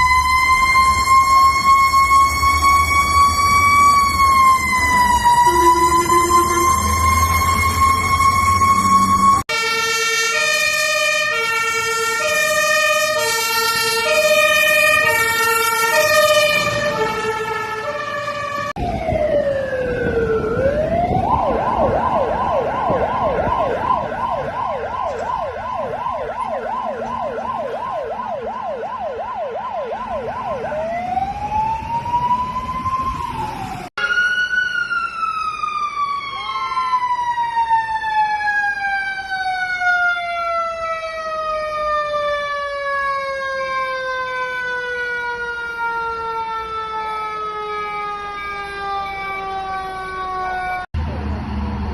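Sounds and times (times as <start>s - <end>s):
fire truck siren two-tone: 0.0s - 50.9s
fire truck siren wail and yelp: 0.0s - 51.9s
long falling siren wail: 0.0s - 51.9s.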